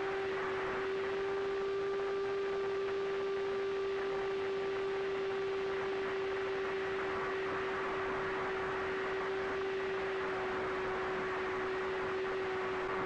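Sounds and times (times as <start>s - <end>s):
electric motor propeller whine: 0.0s - 13.0s.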